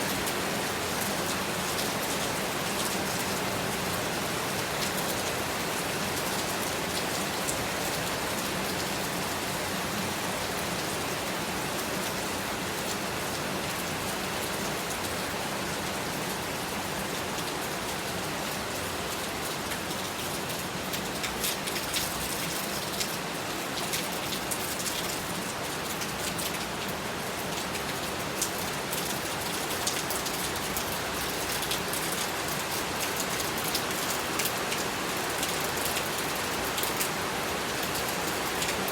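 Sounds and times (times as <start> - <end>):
raindrops hitting a surface: 0.0 - 38.9.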